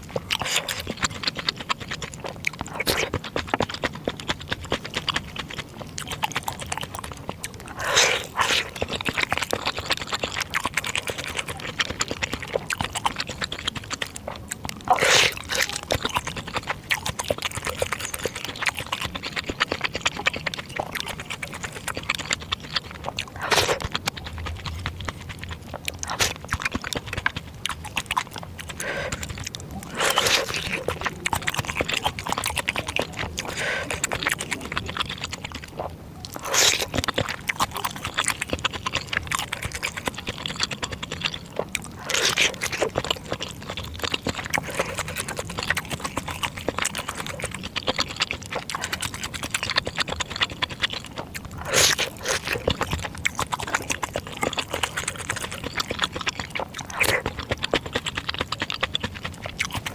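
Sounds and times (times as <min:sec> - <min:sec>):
close chewing with wet mouth clicks: 0:00.0 - 0:59.9
loud eating sounds: 0:00.0 - 0:59.9.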